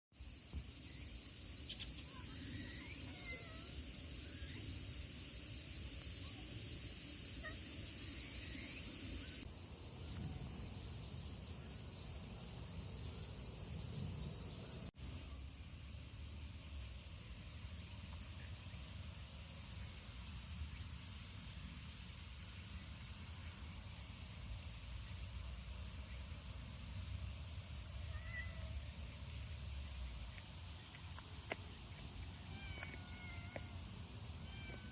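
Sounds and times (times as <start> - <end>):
high-pitched insect chorus: 0.2 - 34.9.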